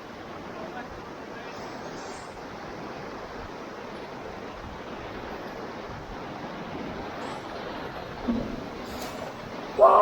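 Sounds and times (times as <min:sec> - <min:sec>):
rushing whitewater: 0:00.0 - 0:10.0.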